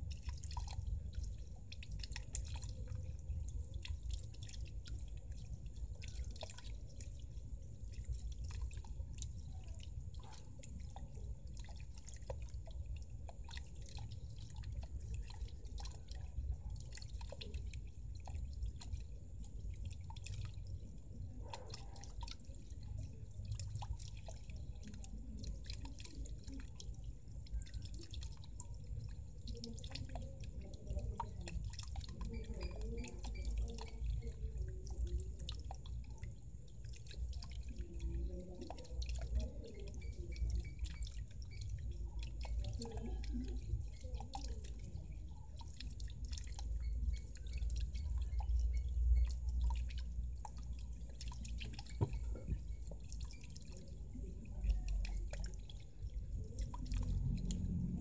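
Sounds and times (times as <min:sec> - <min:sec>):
fountain water splashing: 0:00.0 - 0:58.0
water dripping and pattering: 0:00.0 - 0:58.0.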